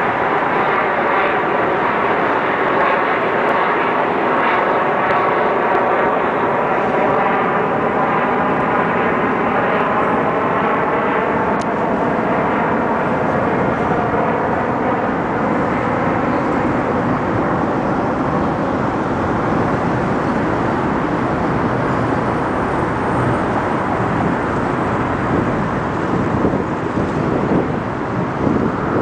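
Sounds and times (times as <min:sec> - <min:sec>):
loud engine drone: 0:00.0 - 0:29.0.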